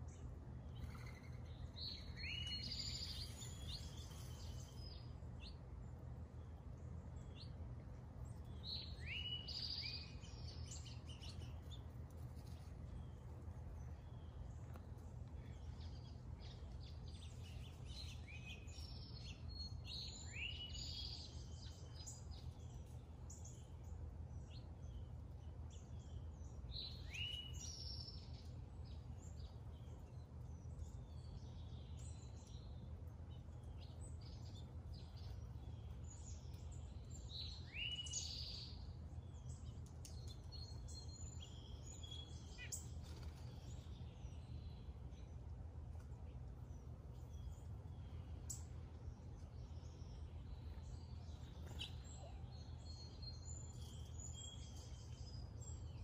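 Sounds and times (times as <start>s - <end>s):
songbirds chirping and singing: 0.0s - 56.0s
steady low hum: 0.0s - 56.0s.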